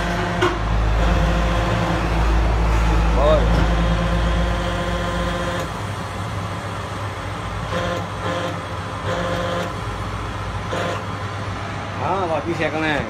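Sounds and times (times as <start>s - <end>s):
low mechanical motor hum: 0.0s - 13.0s.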